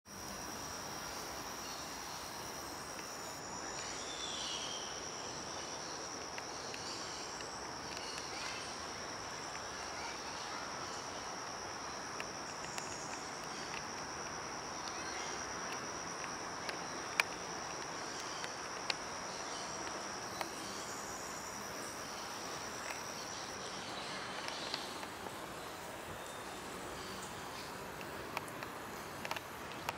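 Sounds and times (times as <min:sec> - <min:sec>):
forest ambience hiss: 0:00.1 - 0:29.9
insect droning: 0:00.1 - 0:29.9.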